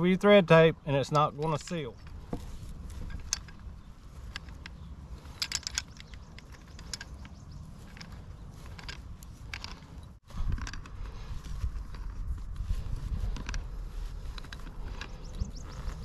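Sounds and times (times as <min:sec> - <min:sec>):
steady low rumble: 0:01.9 - 0:16.0.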